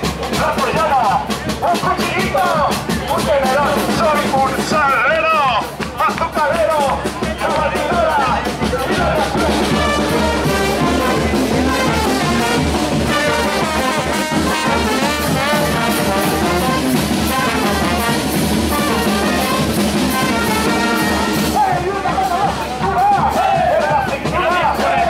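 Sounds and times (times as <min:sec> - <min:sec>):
bass drum and cymbal beat: 0:00.0 - 0:25.0
brass band playing: 0:00.0 - 0:25.0.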